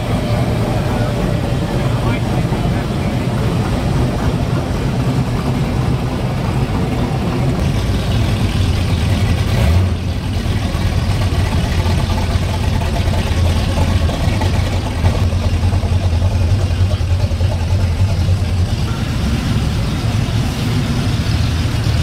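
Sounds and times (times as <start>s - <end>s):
pickup truck engine rumbling: 0.0s - 22.0s.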